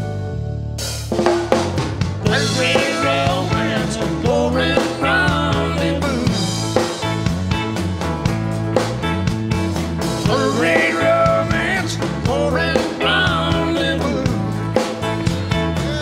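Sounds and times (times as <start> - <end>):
bass and guitars: 0.0 - 16.0
drum kit hits: 0.8 - 16.0.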